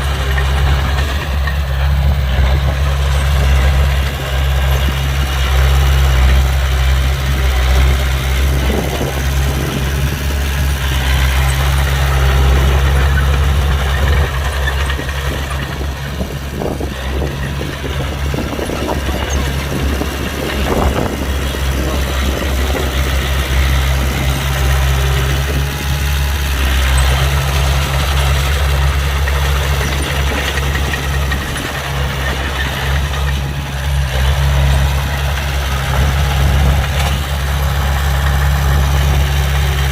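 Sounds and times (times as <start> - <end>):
heavy diesel engine running: 0.0 - 39.9
scattered clatter: 0.0 - 39.9.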